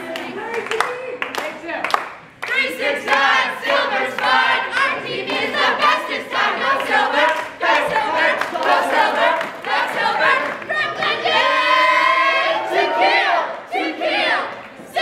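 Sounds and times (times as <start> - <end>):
crowd chanting a team cheer: 2.4 - 15.0.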